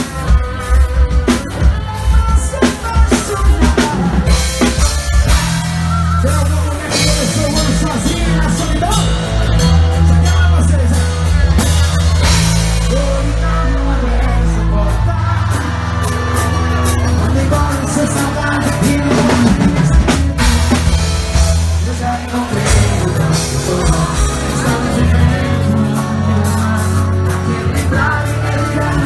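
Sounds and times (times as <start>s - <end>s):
live band music: 0.0s - 29.0s.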